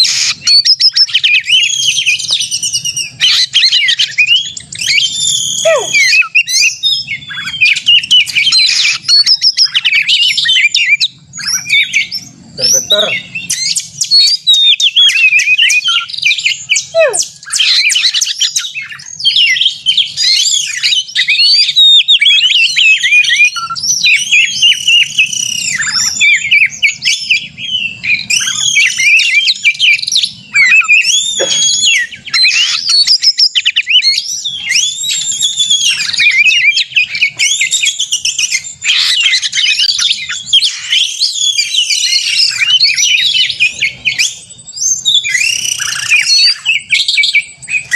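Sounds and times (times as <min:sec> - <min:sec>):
bird singing: 0:00.0 - 0:47.9.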